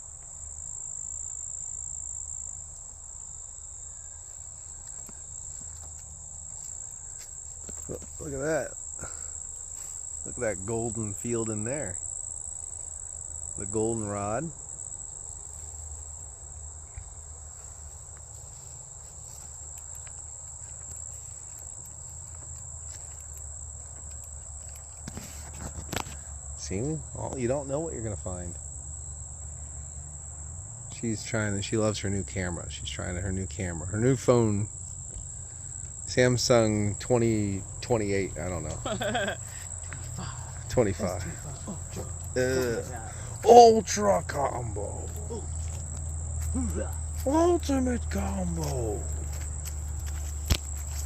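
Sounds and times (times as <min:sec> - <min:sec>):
crickets trilling: 0:00.0 - 0:51.0.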